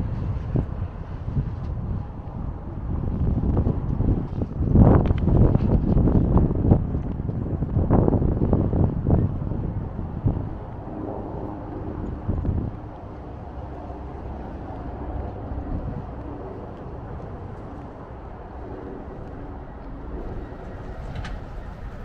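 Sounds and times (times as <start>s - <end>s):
motor traffic drone: 0.0s - 22.0s
wind gust on microphone: 0.0s - 22.0s.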